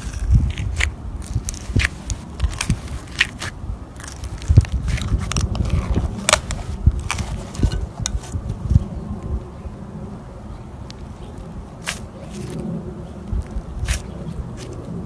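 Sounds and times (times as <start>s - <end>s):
slime squishing: 0.0s - 8.5s, 10.9s - 15.0s.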